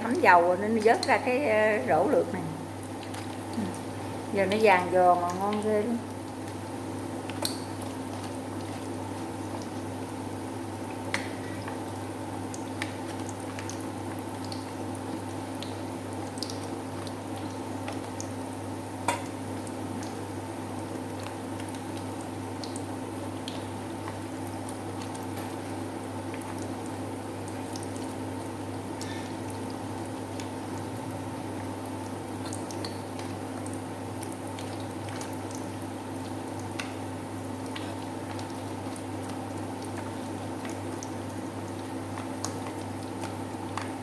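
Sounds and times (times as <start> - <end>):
hot oil bubbling: 0.0 - 44.0
oil popping and crackling: 0.1 - 1.9, 2.8 - 20.4, 21.0 - 44.0.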